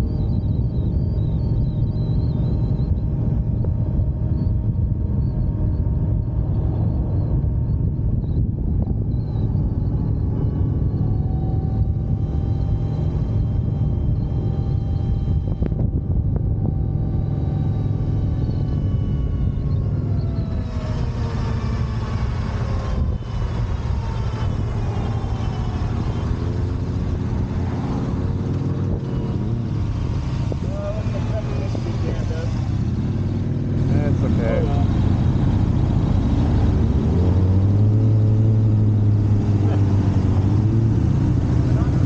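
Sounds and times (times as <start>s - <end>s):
road rumble: 0.0s - 42.0s
whining tones sliding in pitch: 0.0s - 42.0s
wind buffeting: 0.0s - 42.0s.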